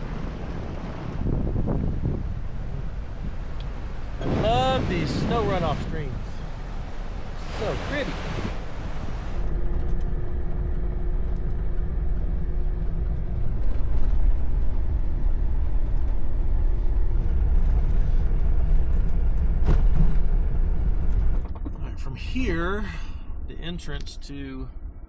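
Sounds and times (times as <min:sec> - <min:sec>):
engine and tyres rumbling: 0:00.0 - 0:25.0.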